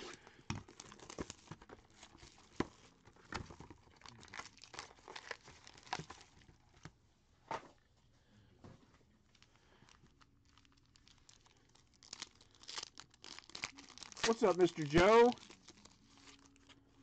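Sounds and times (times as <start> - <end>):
plastic shrink wrap crinkling: 0.0 - 6.9, 9.2 - 17.0.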